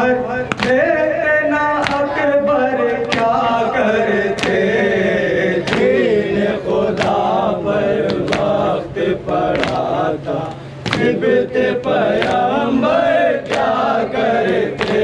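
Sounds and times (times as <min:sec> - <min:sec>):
men chanting in chorus: 0:00.0 - 0:15.0.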